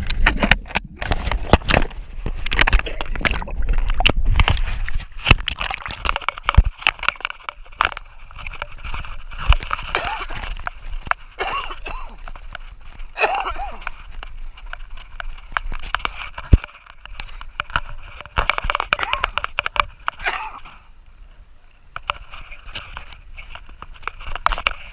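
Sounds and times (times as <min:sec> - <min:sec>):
sharp clicks and pops: 0:00.0 - 0:20.7, 0:21.9 - 0:24.9
water sloshing and bubbling: 0:00.0 - 0:24.9.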